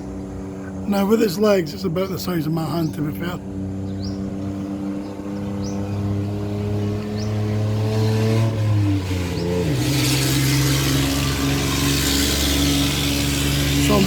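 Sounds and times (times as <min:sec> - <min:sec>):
motor vehicle engine running: 0:00.0 - 0:14.0.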